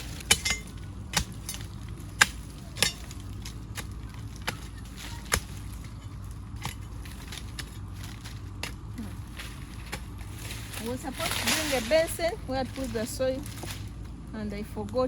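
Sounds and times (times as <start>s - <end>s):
hoe striking hard soil: 0.0s - 13.8s.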